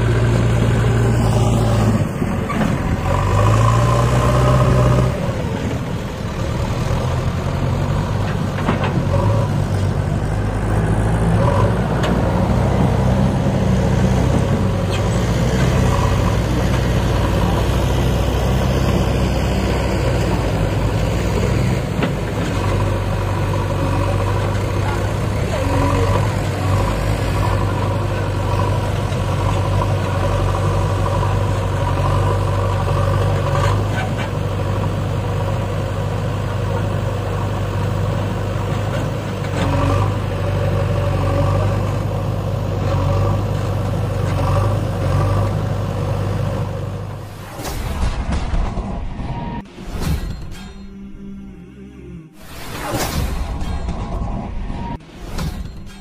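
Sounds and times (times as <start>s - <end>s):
diesel engine running: 0.0s - 50.6s.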